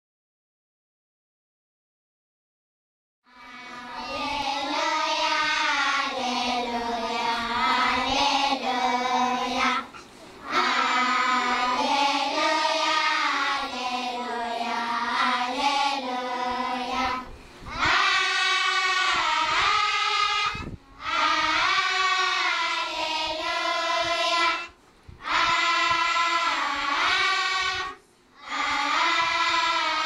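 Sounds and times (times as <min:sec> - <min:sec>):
children singing together: 0:03.3 - 0:30.0.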